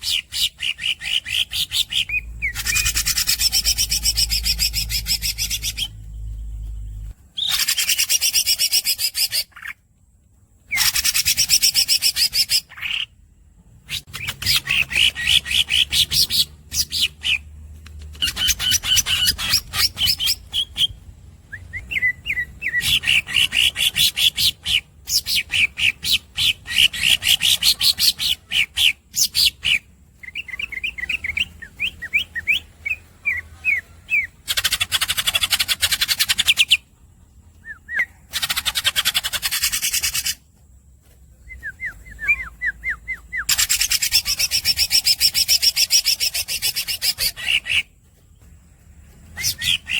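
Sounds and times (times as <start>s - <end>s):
bird singing squeaky trills: 0.0s - 9.9s, 10.6s - 13.2s, 13.8s - 40.4s, 41.0s - 49.9s.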